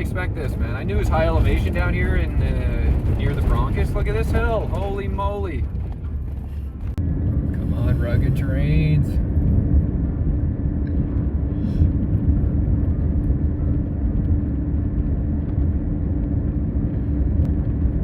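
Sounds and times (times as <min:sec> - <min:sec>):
constant low hum: 0:00.0 - 0:18.0
engine and tyre rumble: 0:00.0 - 0:18.0.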